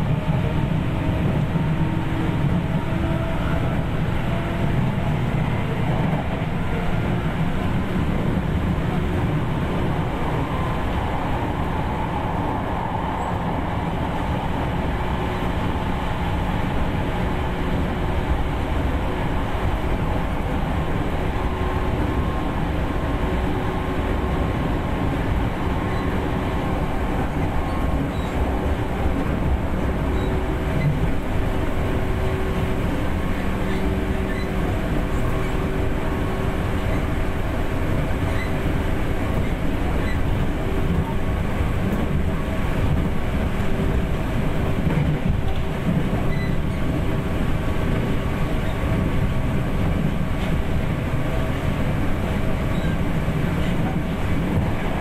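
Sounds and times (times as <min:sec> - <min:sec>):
electric train rumble: 0:00.0 - 0:55.0.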